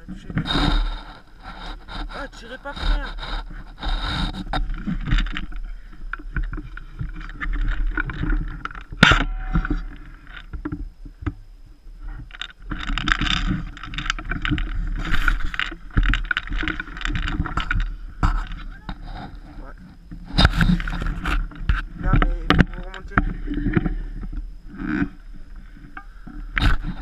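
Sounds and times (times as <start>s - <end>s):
handling rustling and knocks: 0.0s - 11.4s, 12.1s - 25.2s
low microphone rumble: 0.0s - 27.0s.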